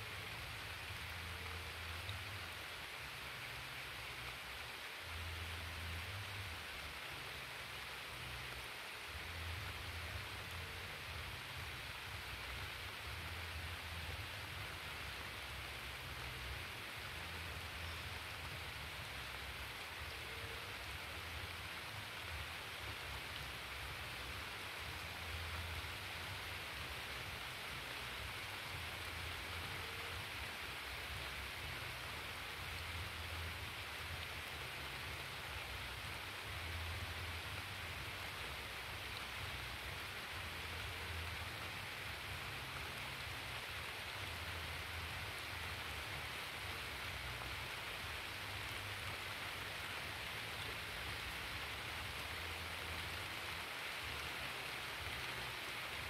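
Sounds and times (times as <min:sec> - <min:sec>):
hiss of rushing water: 0:00.0 - 0:56.0.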